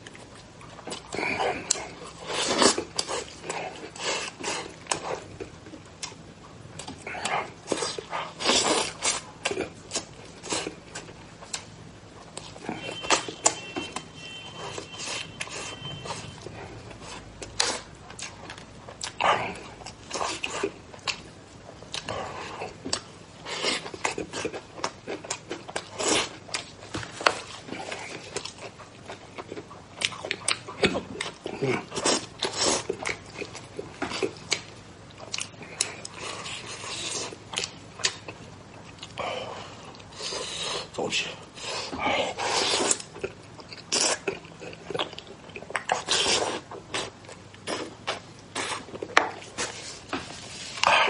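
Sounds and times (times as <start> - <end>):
person chewing and lip smacking: 0.0 - 49.9.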